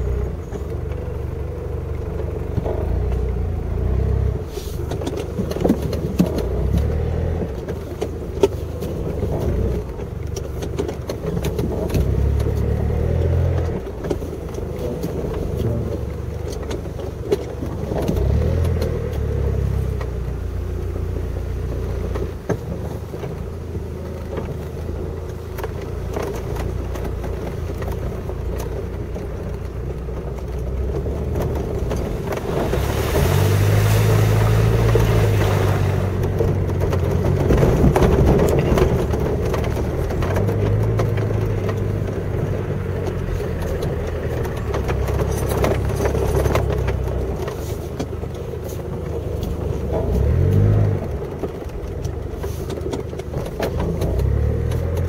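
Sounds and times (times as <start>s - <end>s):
car engine driving slowly: 0.0s - 55.0s
knocks and rattles over bumps: 0.0s - 55.0s.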